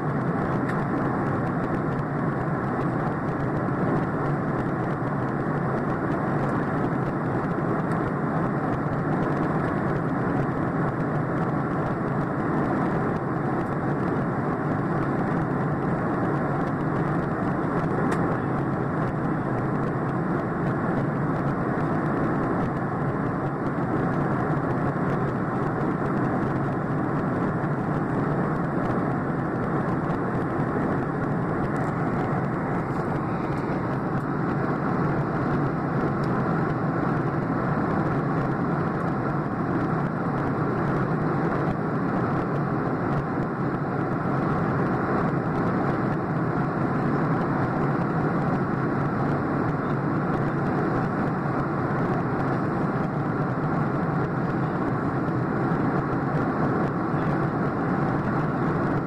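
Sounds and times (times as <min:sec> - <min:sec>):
jet airliner cabin roar: 0:00.0 - 0:59.0.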